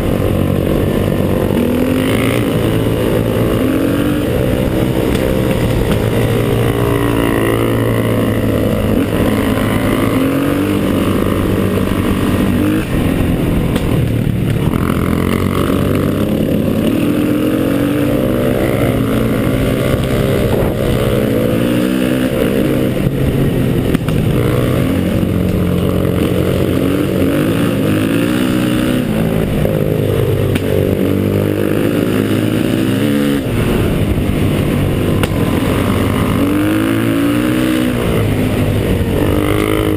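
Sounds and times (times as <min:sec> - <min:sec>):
motorcycle engine revving under load: 0:00.0 - 0:39.9.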